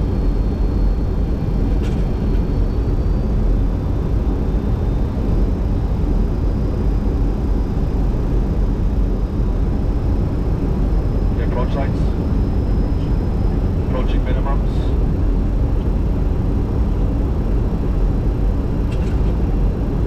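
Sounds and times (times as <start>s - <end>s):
aircraft engine rumble: 0.0s - 20.0s
airflow rush in cockpit: 0.0s - 20.0s.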